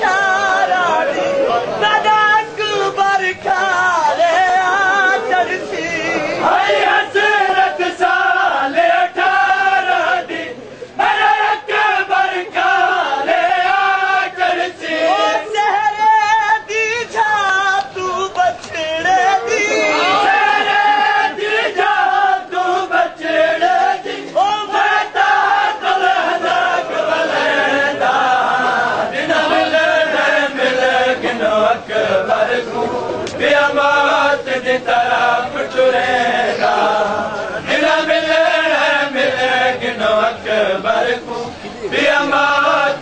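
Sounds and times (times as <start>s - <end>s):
men chanting a lament: 0.0s - 43.0s.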